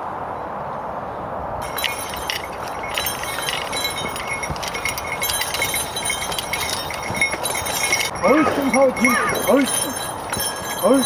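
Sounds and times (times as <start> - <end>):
metal harness chains jingling: 1.6 - 11.0.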